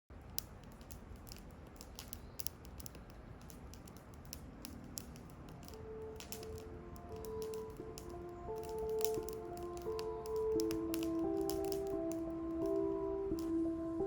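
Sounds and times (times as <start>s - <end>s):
campfire crackling: 0.1s - 14.0s
low steady fire hiss: 0.1s - 14.0s.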